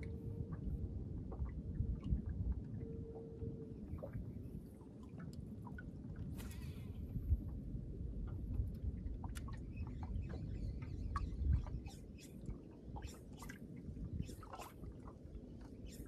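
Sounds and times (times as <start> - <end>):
waves lapping against boat hull: 0.0 - 16.0
wind rumble on microphone: 0.0 - 16.0.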